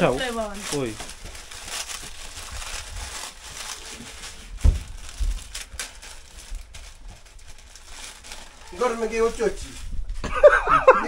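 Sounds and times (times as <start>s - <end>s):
plastic packet crinkling: 0.0s - 10.2s.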